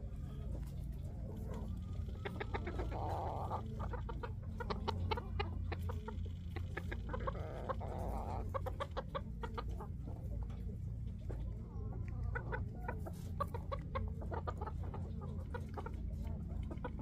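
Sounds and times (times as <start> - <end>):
chickens clucking: 0.0 - 17.0
steady low hum: 0.0 - 17.0.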